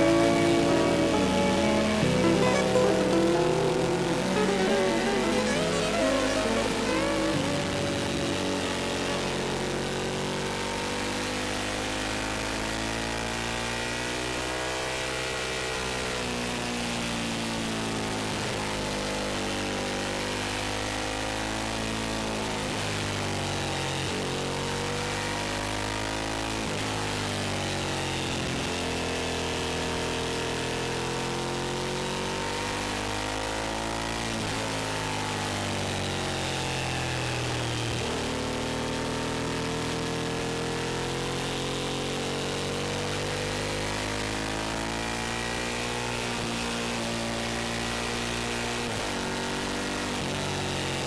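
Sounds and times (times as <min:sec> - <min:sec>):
motorcycle engine revving: 0:06.8 - 0:51.0.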